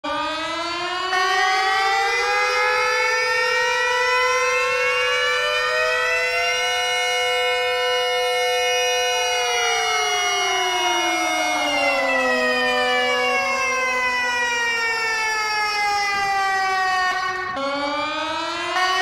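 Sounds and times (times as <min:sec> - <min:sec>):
civil defence sirens wailing: 0:00.0 - 0:19.0.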